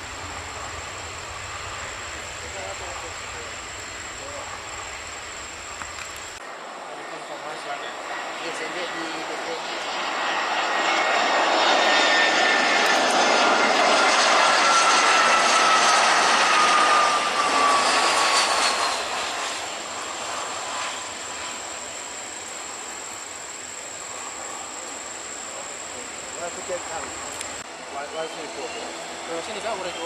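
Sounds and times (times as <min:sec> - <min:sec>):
jet engines rushing and whining: 0:00.0 - 0:30.0.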